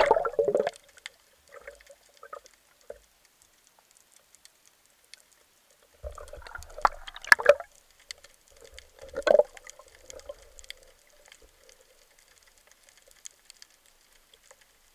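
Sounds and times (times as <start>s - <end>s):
water sloshing underwater: 0.0s - 14.9s.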